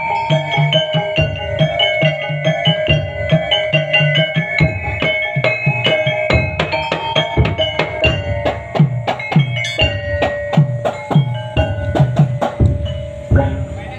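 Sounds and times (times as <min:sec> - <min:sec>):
drums in fast pattern: 0:00.0 - 0:13.9
ringing metallic tones: 0:00.0 - 0:13.9.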